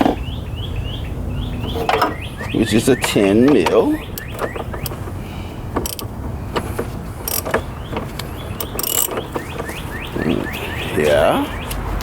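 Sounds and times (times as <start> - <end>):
birds chirping faintly: 0.0 - 11.9.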